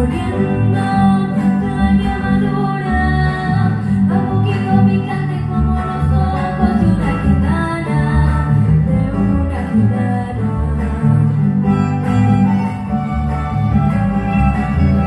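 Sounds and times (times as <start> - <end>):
woman singing: 0.0 - 12.6
acoustic guitars: 0.0 - 15.0
violin: 0.0 - 15.0.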